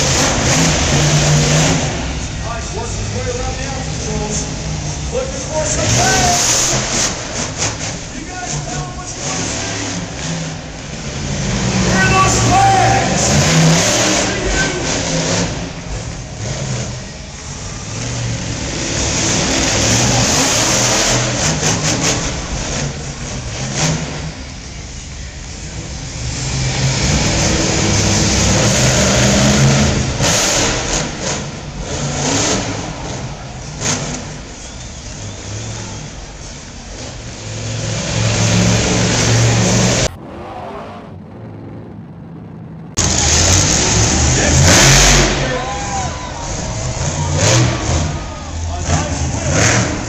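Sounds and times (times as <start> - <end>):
truck engine revving: 0.0 - 50.0.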